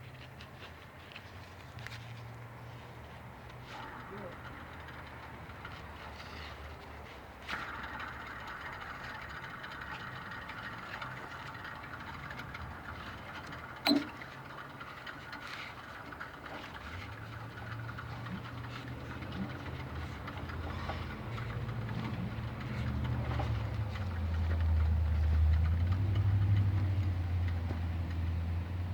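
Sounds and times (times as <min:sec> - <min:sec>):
plate compactor engine humming: 0:02.6 - 0:28.9.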